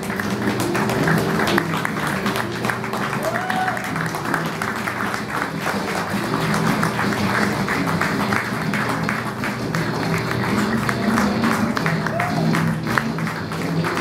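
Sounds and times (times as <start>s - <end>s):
audience applause: 0.0s - 14.0s
music playing: 0.0s - 14.0s.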